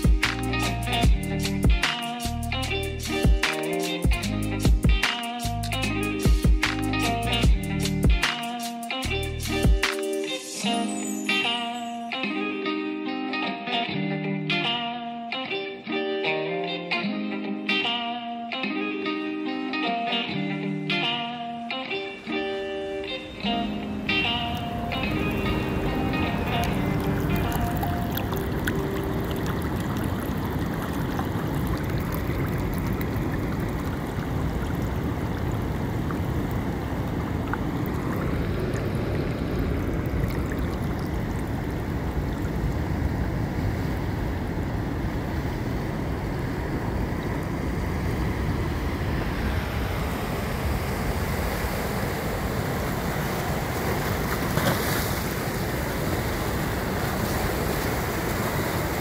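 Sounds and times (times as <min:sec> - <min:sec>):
waves washing in: 0:00.0 - 0:13.0, 0:19.9 - 0:59.0.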